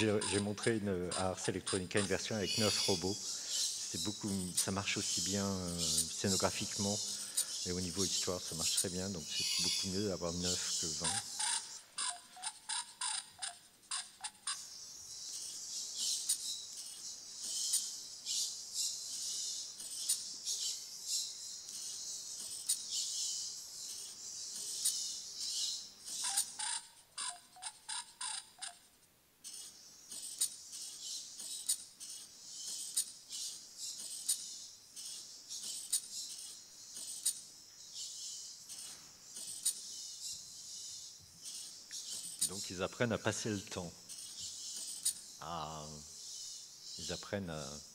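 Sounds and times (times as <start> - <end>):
pen nib scratching paper: 0.0 - 11.8, 13.9 - 28.8, 29.4 - 45.3.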